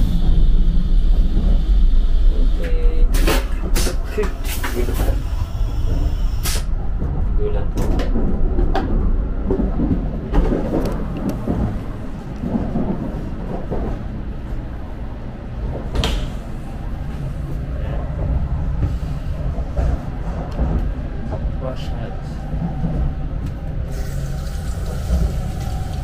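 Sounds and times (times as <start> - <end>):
train carriage low rumble: 0.0 - 26.0.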